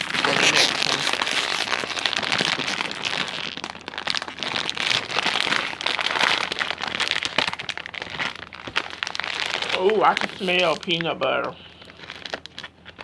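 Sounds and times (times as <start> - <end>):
plastic snack bag crinkling: 0.0 - 13.0.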